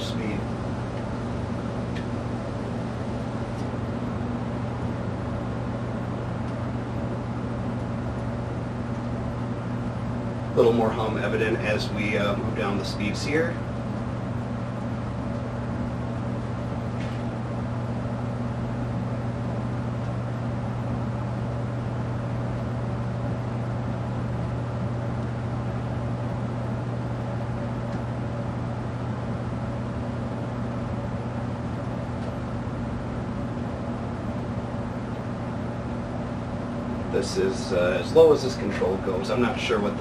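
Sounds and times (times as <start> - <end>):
ceiling fan motor humming: 0.0 - 40.0.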